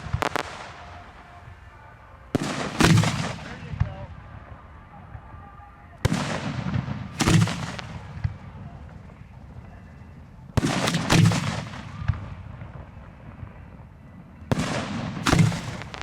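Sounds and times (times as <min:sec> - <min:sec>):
fireworks booming: 0:00.0 - 0:05.4, 0:06.0 - 0:16.0.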